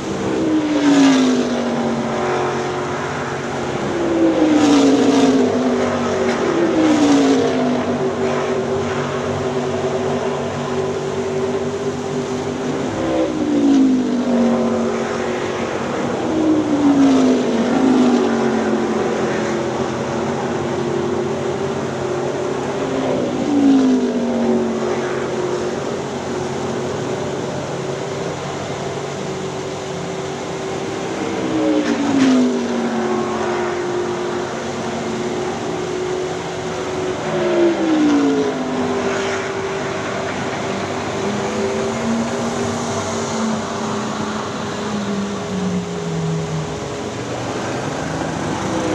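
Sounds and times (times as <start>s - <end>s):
drone of distant race cars: 0.0s - 48.9s
race cars passing at speed: 0.0s - 48.9s.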